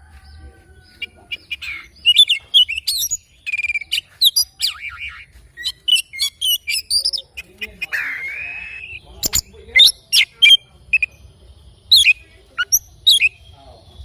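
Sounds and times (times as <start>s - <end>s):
bird singing chirps and trills: 0.0s - 14.0s.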